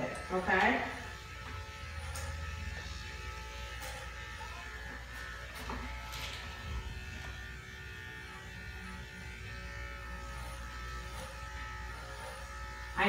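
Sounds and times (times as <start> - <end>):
electric clippers humming: 0.0 - 13.0.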